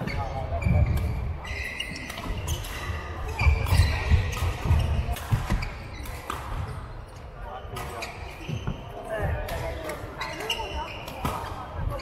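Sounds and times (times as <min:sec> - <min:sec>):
shoes squeaking on floor: 0:00.0 - 0:12.0.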